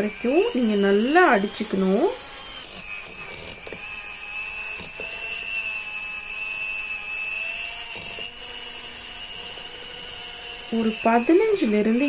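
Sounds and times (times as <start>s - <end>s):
electric hand mixer whine: 0.0s - 12.0s.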